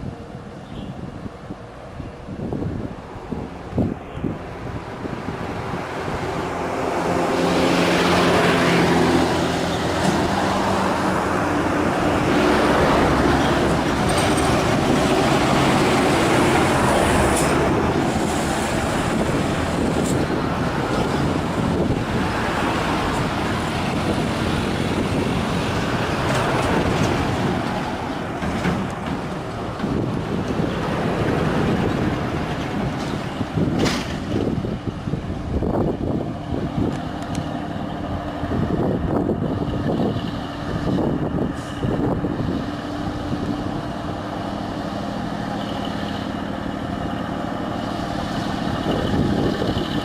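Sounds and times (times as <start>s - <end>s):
truck diesel engine labouring: 0.0s - 50.0s.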